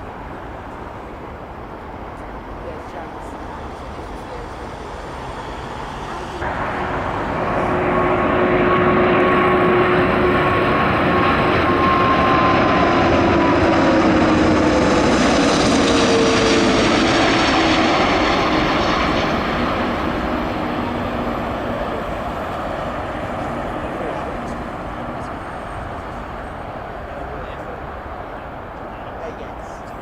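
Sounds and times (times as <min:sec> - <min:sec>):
jet airliner roaring past: 0:00.0 - 0:30.0.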